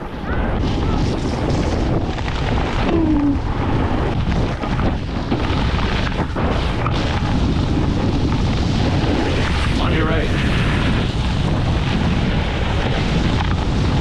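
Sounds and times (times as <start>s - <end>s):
snowboard scraping over snow: 0.0s - 14.0s
wind buffeting microphone: 0.0s - 14.0s.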